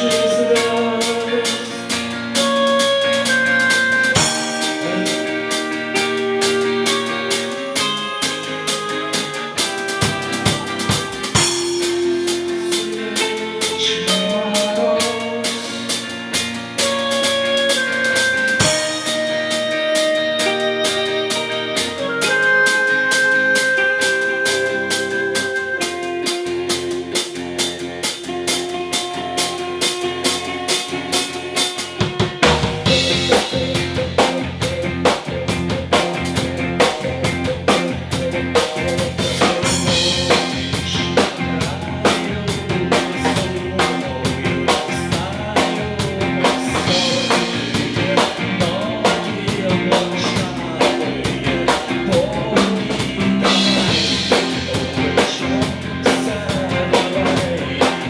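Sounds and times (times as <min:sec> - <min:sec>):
bass guitar: 0:00.0 - 0:58.0
guitar notes: 0:00.0 - 0:58.0
rock drum kit beat: 0:00.0 - 0:58.0.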